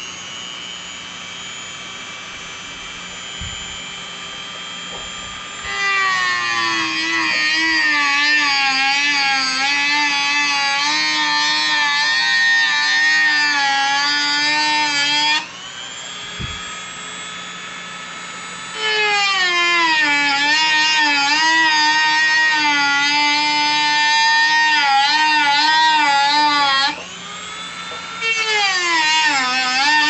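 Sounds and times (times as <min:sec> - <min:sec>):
drill press motor whining: 0:00.0 - 0:30.0.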